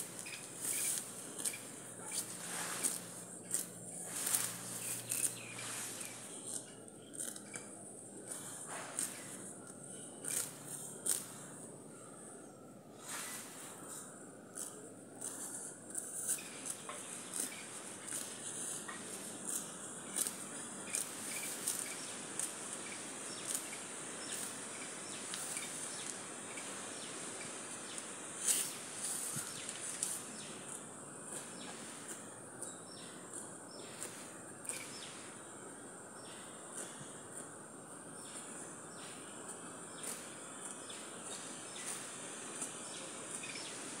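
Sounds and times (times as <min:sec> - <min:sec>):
insect drone: 0:00.0 - 0:44.0.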